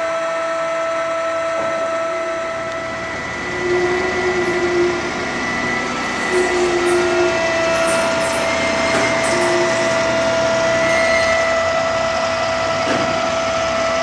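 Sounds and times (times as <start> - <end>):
low wavering tone: 0.0 - 12.8
drill press machine whine: 0.0 - 14.0.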